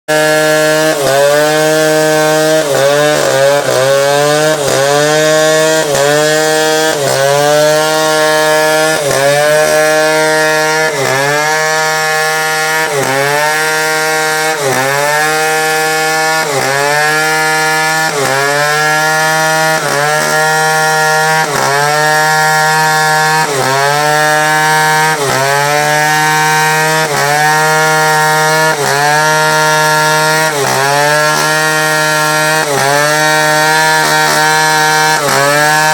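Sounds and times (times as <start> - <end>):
chainsaw cutting wood: 0.1 - 35.9.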